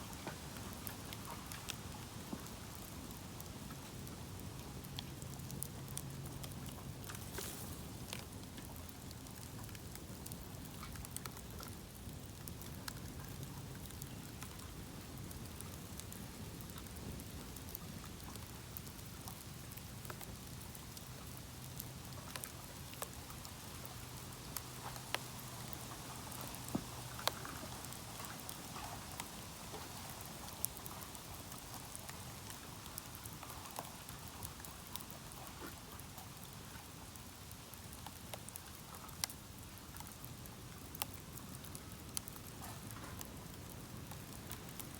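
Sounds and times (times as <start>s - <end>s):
bonfire flames hissing: 0.0s - 44.9s
fire crackles and pops: 0.0s - 44.9s.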